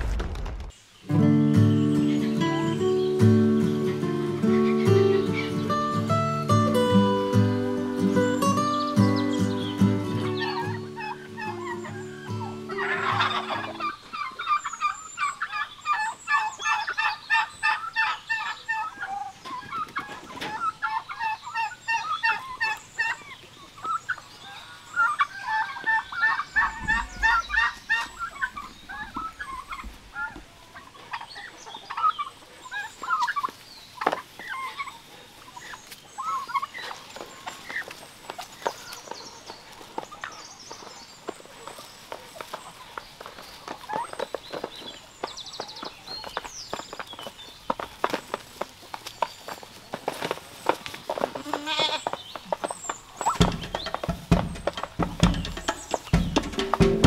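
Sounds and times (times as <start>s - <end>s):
turkeys gobbling: 2.8s - 51.4s, 52.0s - 57.0s.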